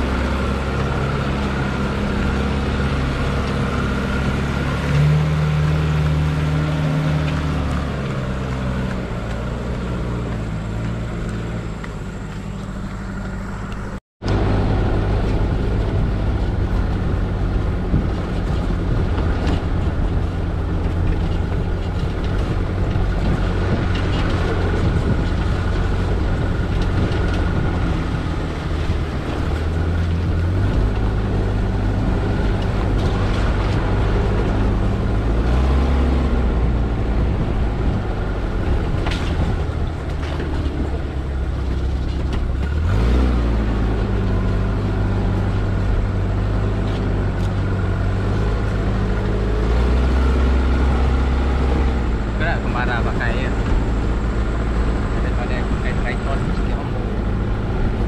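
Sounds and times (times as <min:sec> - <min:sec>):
car engine drone: 0:00.0 - 0:58.0
road and tyre noise: 0:00.0 - 0:58.0.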